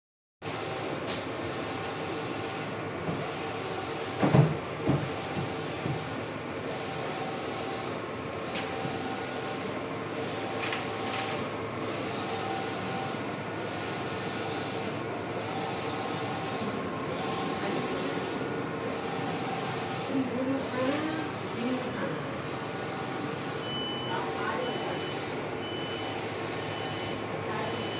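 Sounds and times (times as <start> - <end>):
inkjet printer carriage whirring: 0.6 - 27.8.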